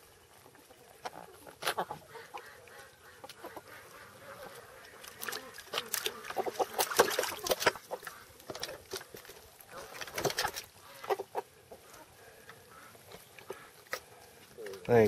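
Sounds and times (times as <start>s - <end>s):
chickens clucking and squawking: 0.0s - 14.5s.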